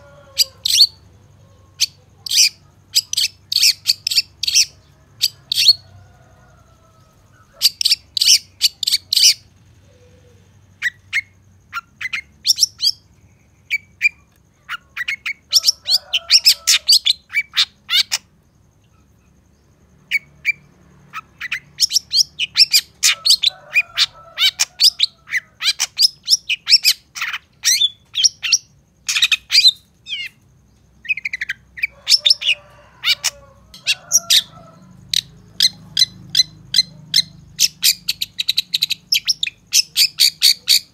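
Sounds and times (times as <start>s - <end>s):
bird singing rapid chattering song: 0.0s - 5.9s, 7.4s - 40.9s.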